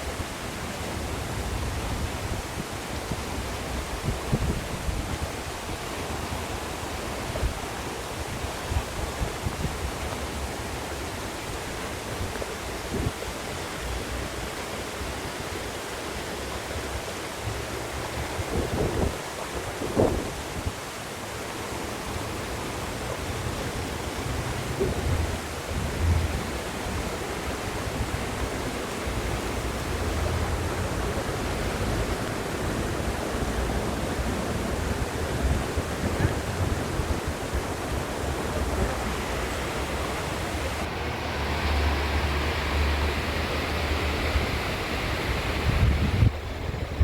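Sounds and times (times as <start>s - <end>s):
wind buffeting microphone: 1.0s - 10.6s, 12.0s - 13.3s, 17.5s - 20.9s, 23.2s - 47.0s.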